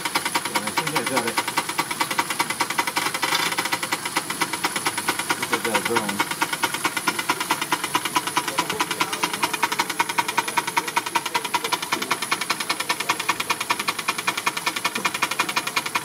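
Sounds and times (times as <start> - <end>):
steam engines chuffing: 0.0 - 16.0.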